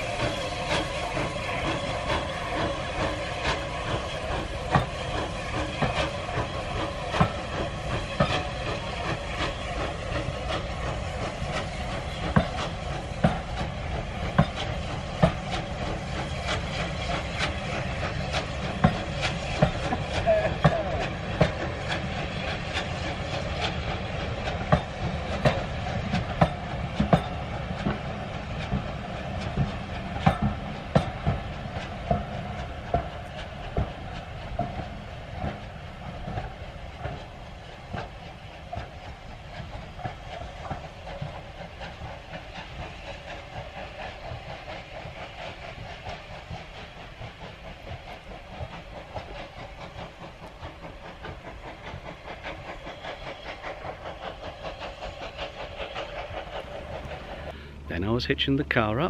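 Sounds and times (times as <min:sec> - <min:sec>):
train rumble: 0:00.0 - 0:59.0
train wheels clickety-clack: 0:00.0 - 0:59.0.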